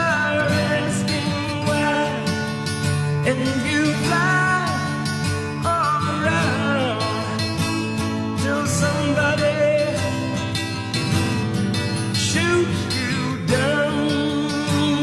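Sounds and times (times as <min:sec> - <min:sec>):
person singing: 0:00.0 - 0:10.4, 0:12.2 - 0:15.0
guitar accompaniment: 0:00.0 - 0:15.0.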